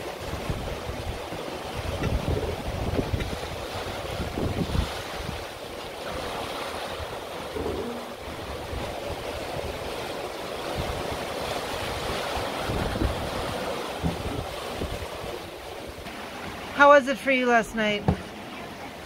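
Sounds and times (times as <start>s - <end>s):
wind gusts buffeting microphone: 0.0s - 16.1s
strong wind: 0.0s - 16.8s
sea rushing along hull: 0.0s - 19.0s.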